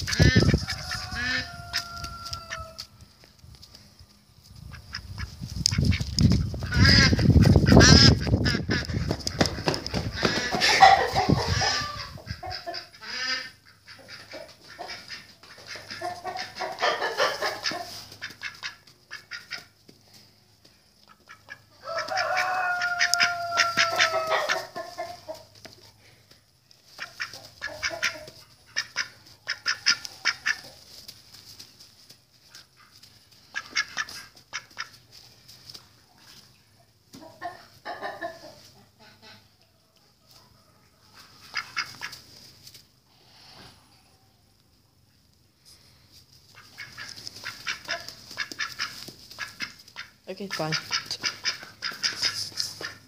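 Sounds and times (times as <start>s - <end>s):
chickens clucking: 0.0s - 3.0s, 4.5s - 53.0s.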